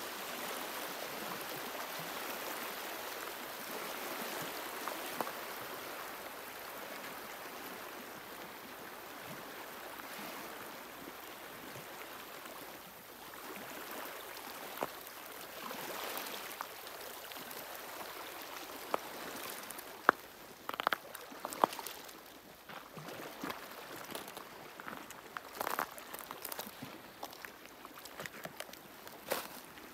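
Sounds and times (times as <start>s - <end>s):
small waves lapping: 0.0s - 29.9s.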